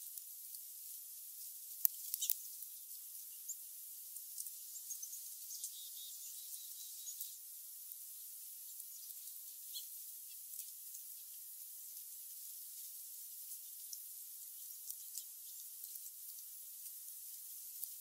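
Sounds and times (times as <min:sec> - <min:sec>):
steady high-pitched hiss: 0:00.0 - 0:18.0
small birds chirping: 0:01.4 - 0:18.0.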